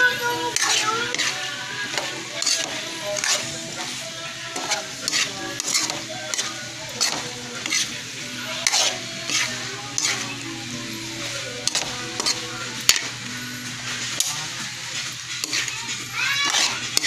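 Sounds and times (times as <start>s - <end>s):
food sizzling: 0.0s - 17.0s
metal spatula scraping wok: 0.0s - 17.0s.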